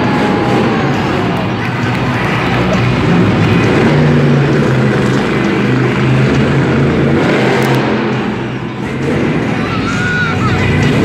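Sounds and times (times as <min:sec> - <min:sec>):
truck engine running hard: 0:00.0 - 0:11.0.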